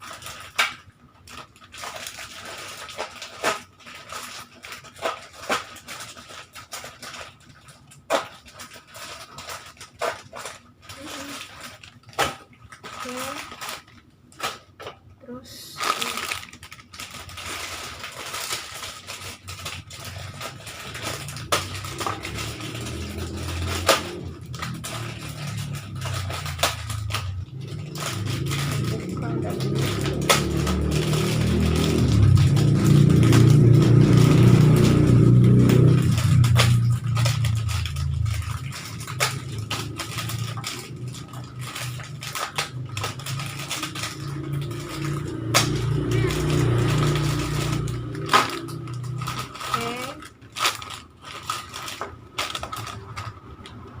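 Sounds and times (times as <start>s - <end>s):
plastic packaging crinkling: 0.0s - 54.0s.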